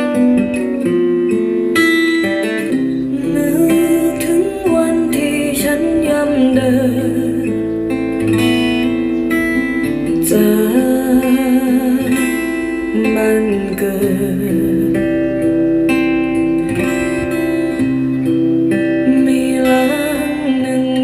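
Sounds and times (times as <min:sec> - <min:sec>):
guitar-led pop music on speakers: 0:00.0 - 0:21.0.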